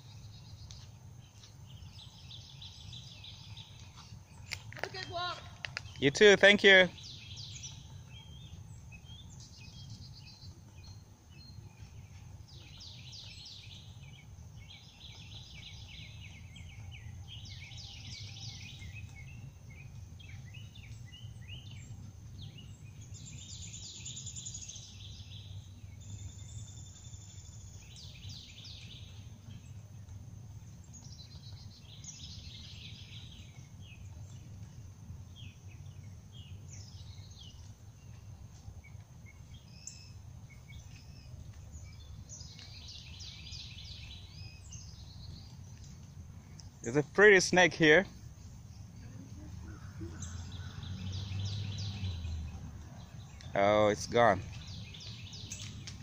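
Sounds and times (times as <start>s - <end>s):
songbirds chattering and trilling: 0.0s - 56.0s.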